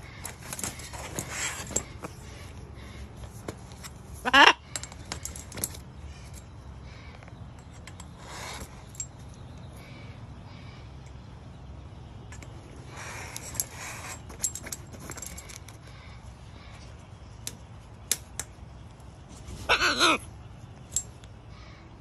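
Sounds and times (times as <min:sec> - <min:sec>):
bird feet and beak tapping metal: 0:00.0 - 0:19.3, 0:20.6 - 0:21.8.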